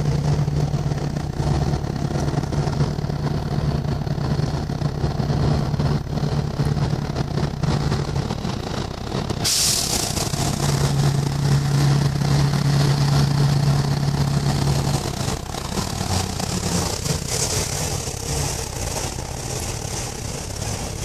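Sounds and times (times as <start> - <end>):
diesel truck engine pulling: 0.0 - 21.0.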